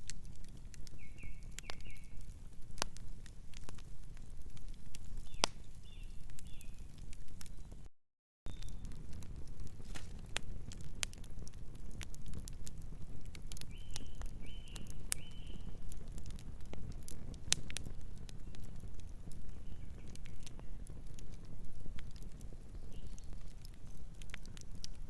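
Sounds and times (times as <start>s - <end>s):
wood fire crackling and popping: 0.0s - 7.9s, 8.5s - 25.0s.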